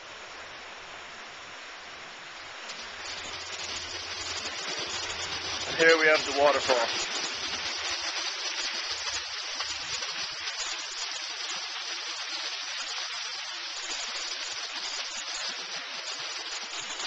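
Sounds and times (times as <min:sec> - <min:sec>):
waterfall splashing over rocks: 0:00.0 - 0:17.0.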